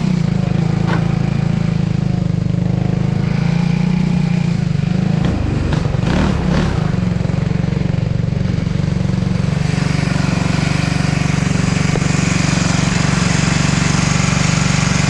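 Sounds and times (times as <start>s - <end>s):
kart engine idling: 0.0s - 15.0s.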